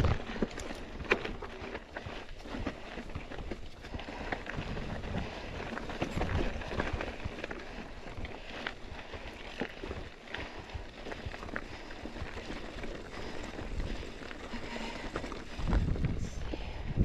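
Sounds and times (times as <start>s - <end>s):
footsteps crunching on gravel: 0.0s - 16.8s.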